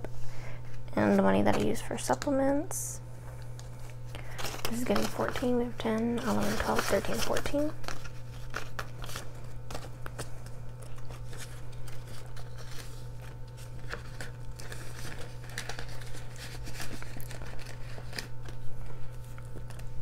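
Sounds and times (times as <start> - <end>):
steady low hum: 0.0 - 20.0
banknotes and plastic rustling: 3.6 - 20.0.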